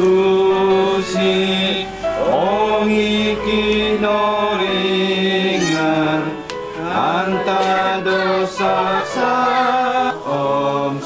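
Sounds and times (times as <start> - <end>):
slow chant-like singing: 0.0 - 11.0.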